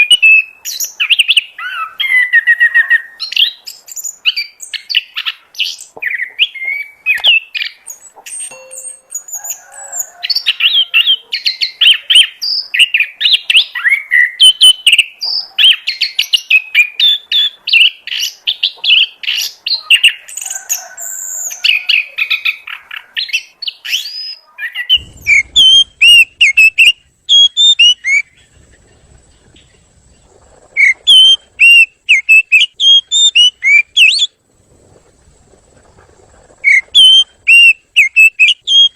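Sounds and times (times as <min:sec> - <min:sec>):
bird singing whistles and chirps: 0:00.0 - 0:20.2, 0:21.1 - 0:29.8, 0:30.8 - 0:34.4, 0:36.6 - 0:38.9.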